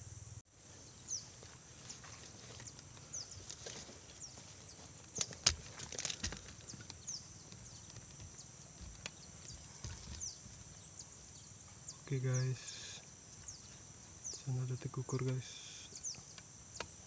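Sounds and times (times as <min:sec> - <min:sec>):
birds chirping: 0:00.0 - 0:17.0
insect drone: 0:00.0 - 0:17.0.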